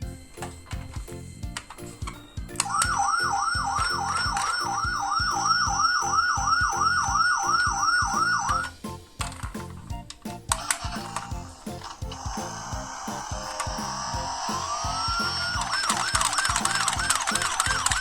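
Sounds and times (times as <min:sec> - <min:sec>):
background music with beat: 0:00.0 - 0:18.0
toy electronic siren: 0:00.4 - 0:08.8, 0:10.6 - 0:18.0.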